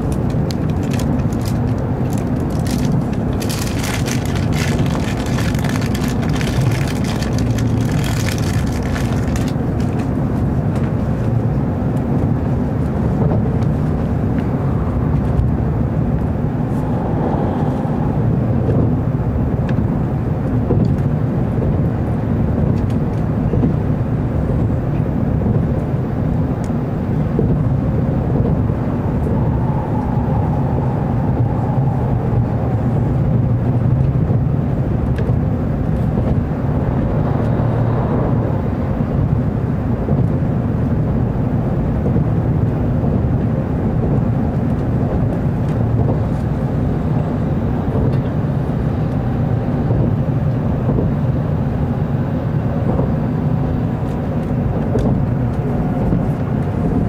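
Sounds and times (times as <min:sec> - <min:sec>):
train rumble inside cabin: 0:00.0 - 0:57.0.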